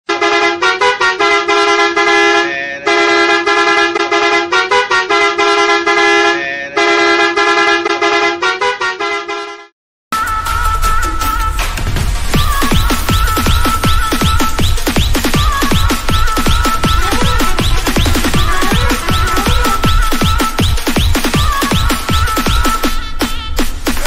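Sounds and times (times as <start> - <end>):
musical vehicle horn tune: 0.0 - 9.8, 12.4 - 24.0.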